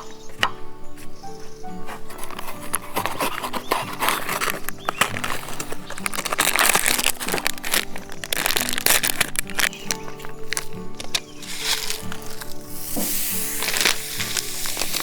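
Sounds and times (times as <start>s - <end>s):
background music with held notes: 0.0s - 15.0s
crackling and crunching: 0.0s - 15.0s.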